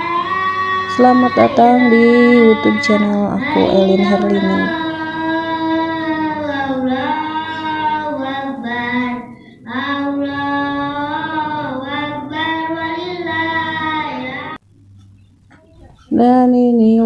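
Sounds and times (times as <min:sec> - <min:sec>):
high voice singing: 0:00.0 - 0:14.6.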